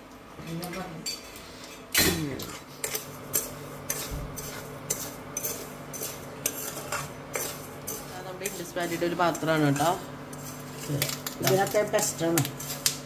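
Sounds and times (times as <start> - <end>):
metal utensils clinking: 2.0 - 13.0.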